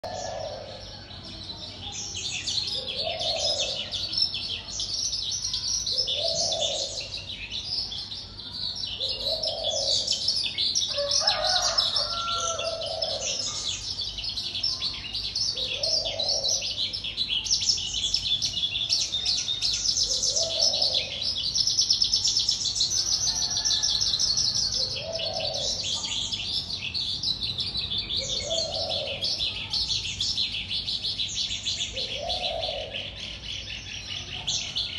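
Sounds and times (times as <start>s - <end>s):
songbird chirps and trills: 0.0s - 34.9s.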